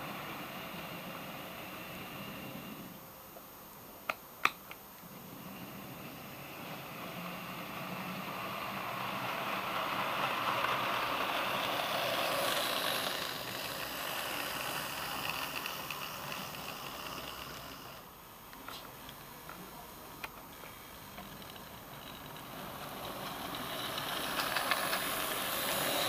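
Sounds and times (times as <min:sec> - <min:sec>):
model train rumbling whir: 0:00.0 - 0:03.4, 0:05.0 - 0:26.0.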